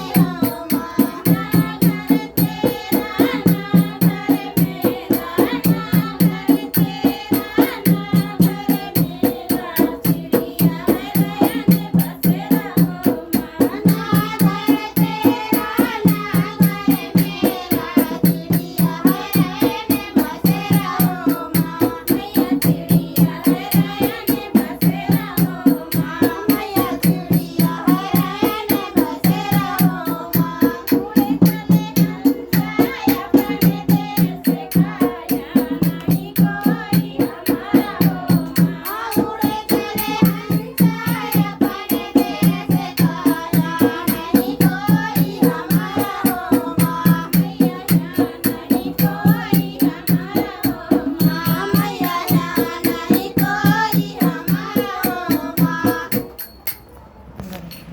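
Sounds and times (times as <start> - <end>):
person singing folk song: 0.0 - 56.4
dholak drum beating fast rhythm: 0.0 - 56.9.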